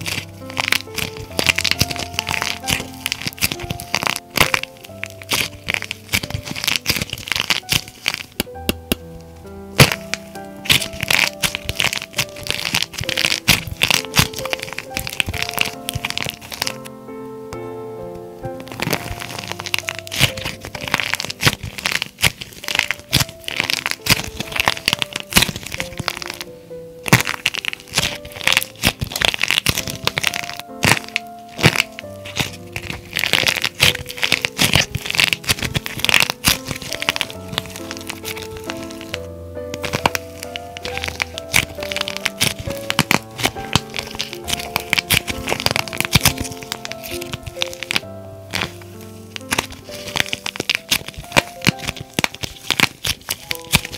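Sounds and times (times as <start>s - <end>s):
clay shell cracking: 0.0s - 9.0s, 9.8s - 16.9s, 18.6s - 53.9s
piano music: 0.0s - 53.9s.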